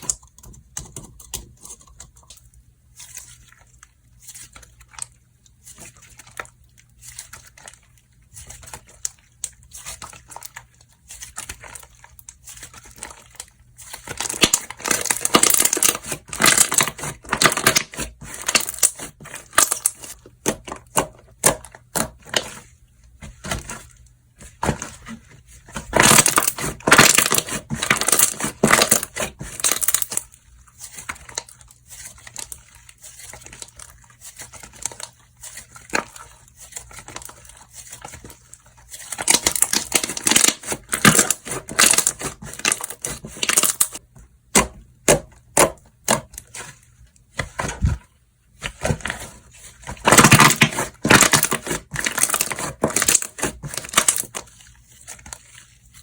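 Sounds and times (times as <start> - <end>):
hands squishing slime: 0.0 - 56.0.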